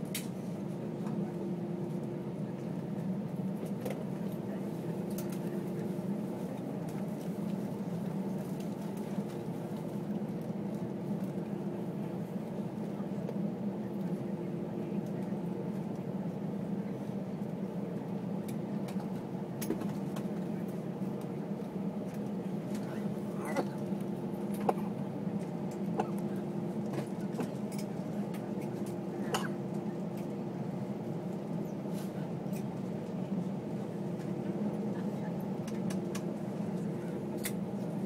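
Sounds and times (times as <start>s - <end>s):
airplane cabin hum: 0.0s - 38.0s.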